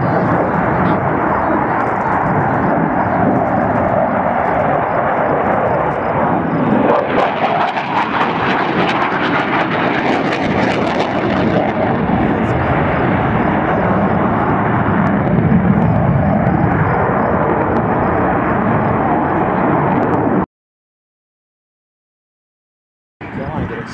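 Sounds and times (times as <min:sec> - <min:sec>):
military jet flying past: 0:00.0 - 0:20.4.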